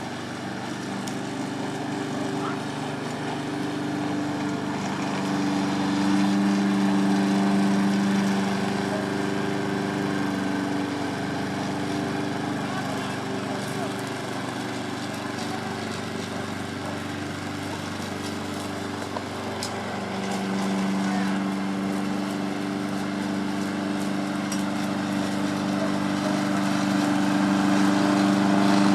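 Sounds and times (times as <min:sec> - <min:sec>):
lawn mower engine running: 0:00.0 - 0:28.9.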